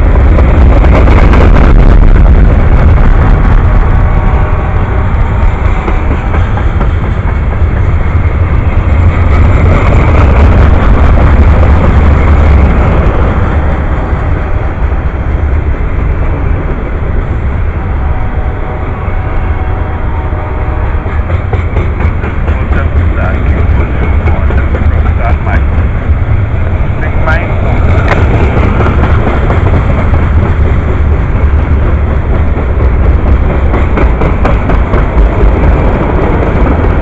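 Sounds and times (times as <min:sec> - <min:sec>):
freight train passing: 0:00.0 - 0:37.0.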